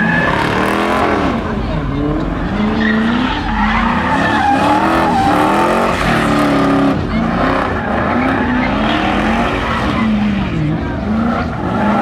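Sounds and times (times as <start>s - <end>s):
car engine revving: 0.0s - 12.0s
tyres squealing: 0.0s - 12.0s.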